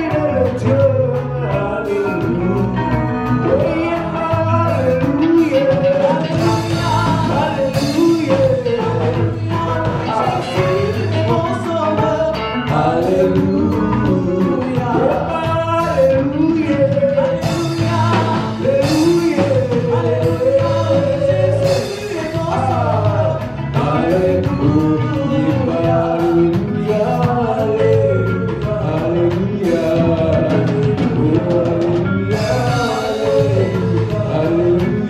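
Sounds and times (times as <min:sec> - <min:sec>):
people singing over a band: 0:00.0 - 0:35.0
steady beat: 0:00.0 - 0:35.0.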